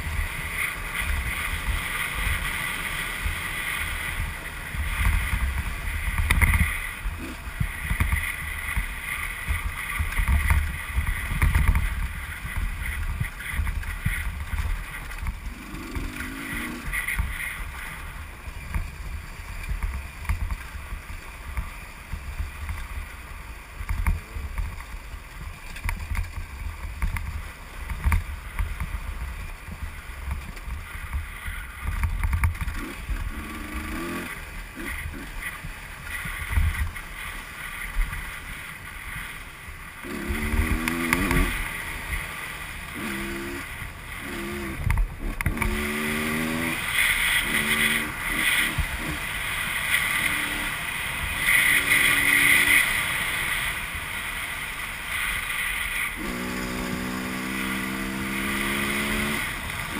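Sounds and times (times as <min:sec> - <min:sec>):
motorcycle engine whining: 0:00.0 - 0:59.9.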